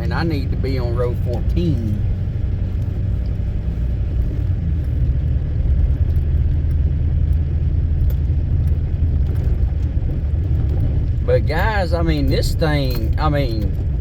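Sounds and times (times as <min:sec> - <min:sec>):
diesel engine rumble inside cab: 0:00.0 - 0:14.0.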